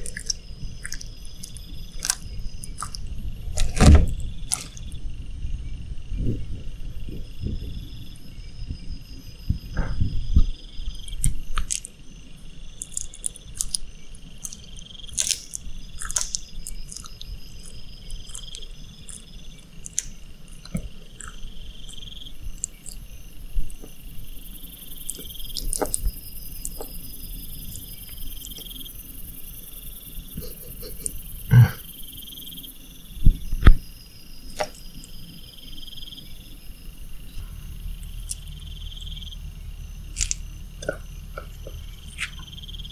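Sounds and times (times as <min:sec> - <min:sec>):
lizard chewing with crunches: 0:00.0 - 0:05.0, 0:11.0 - 0:12.0, 0:12.6 - 0:32.2, 0:33.5 - 0:42.9
steady pulsing chirping: 0:00.0 - 0:42.9.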